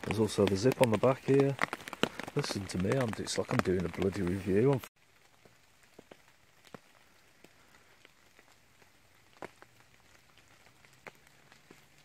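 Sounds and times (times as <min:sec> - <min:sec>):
raindrops dripping: 0:00.0 - 0:12.0.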